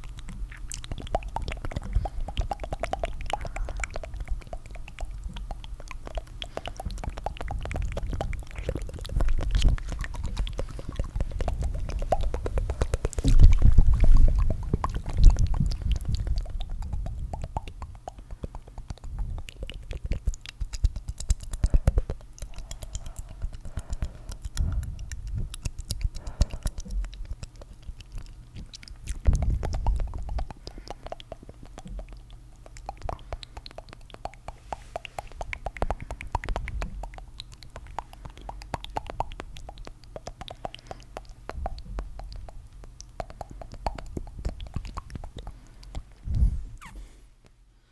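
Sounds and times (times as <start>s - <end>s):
tongue fluttering mouth clicks: 0.0s - 47.6s.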